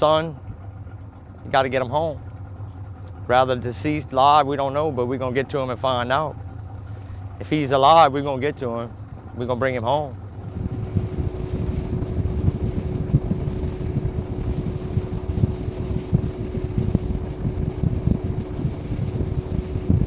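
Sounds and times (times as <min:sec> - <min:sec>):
boat motor running: 0:00.0 - 0:20.0
wind buffeting microphone: 0:00.0 - 0:20.0.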